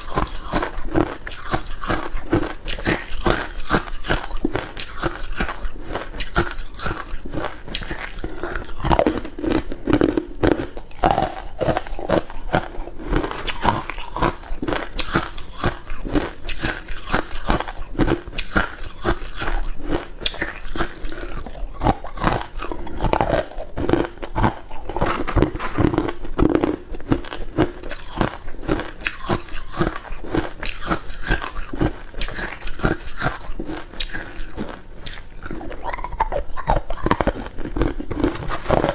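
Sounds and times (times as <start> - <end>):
person crunching ice cubes: 0.0 - 38.9.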